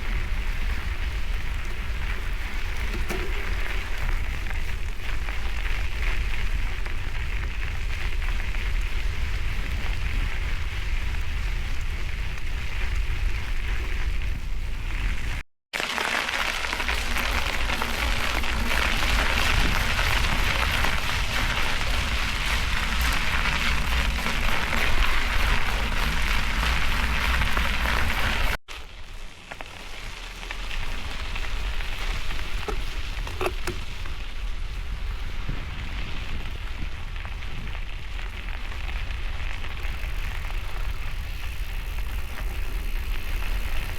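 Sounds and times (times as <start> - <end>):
wind rumbling on microphone: 0.0 - 15.4, 16.3 - 43.9
bicycle tyres crunching on gravel: 0.0 - 43.9.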